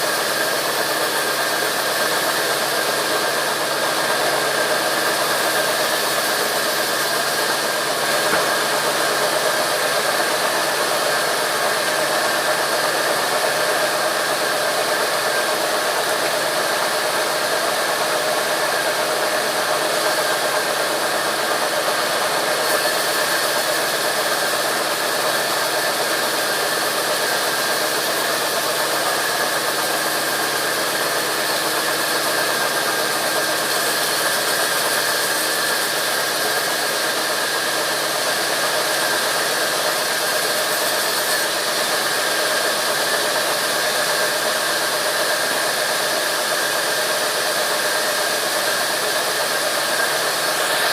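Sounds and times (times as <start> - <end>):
sawmill machinery whining: 0.0 - 50.9.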